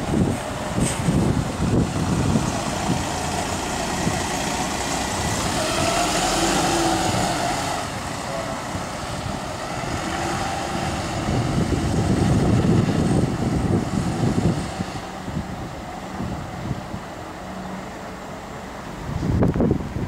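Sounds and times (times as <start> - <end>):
diesel bus accelerating: 0.0 - 20.0.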